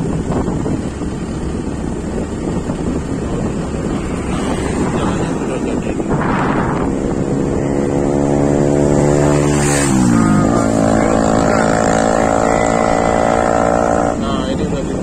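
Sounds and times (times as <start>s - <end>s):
wind rushing: 0.0s - 14.2s
vehicle engine accelerating: 0.0s - 15.0s.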